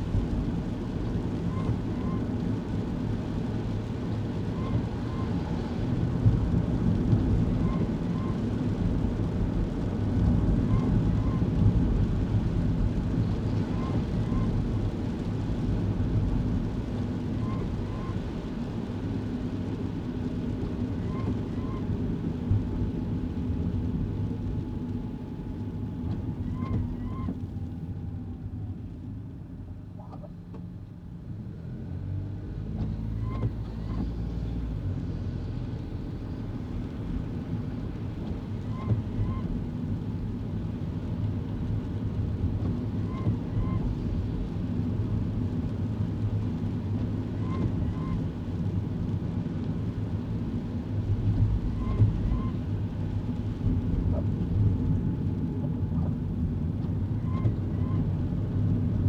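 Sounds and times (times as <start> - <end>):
car engine and wet road noise: 0.0 - 59.0.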